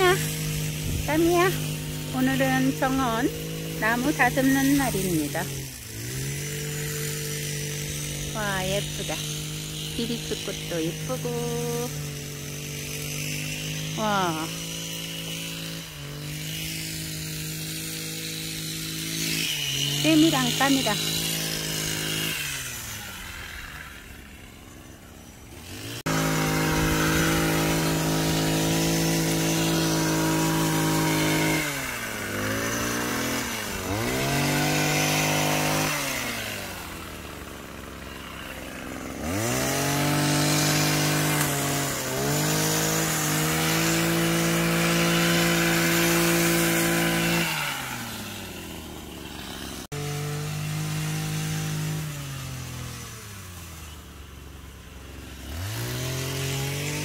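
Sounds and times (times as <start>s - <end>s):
hedge trimmer engine running: 0.0s - 57.0s.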